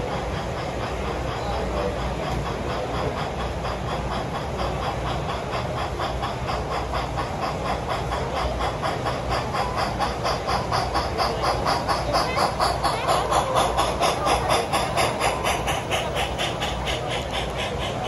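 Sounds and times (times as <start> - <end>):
model steam locomotive chuffing: 0.0 - 18.0
steam hiss: 0.0 - 18.0.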